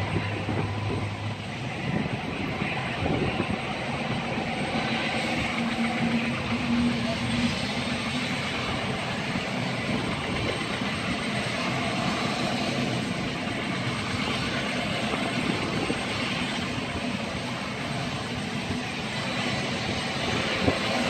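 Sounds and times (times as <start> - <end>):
helicopter turbine and rotor noise: 0.0 - 21.0.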